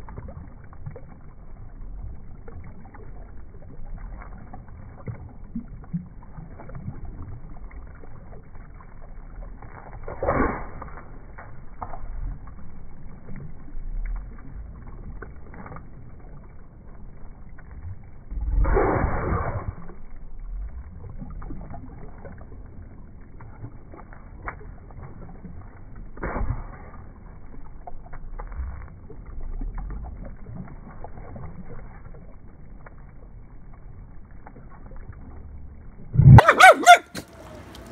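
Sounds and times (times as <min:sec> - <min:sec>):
pool water splashing: 0:00.0 - 0:37.9.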